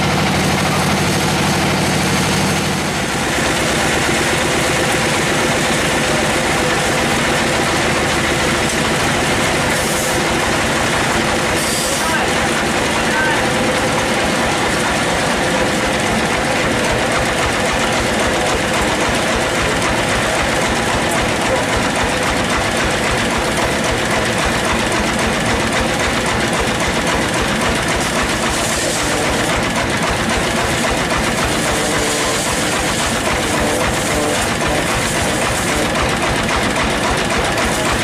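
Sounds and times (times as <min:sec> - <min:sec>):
band-saw machinery running: 0:00.0 - 0:38.0.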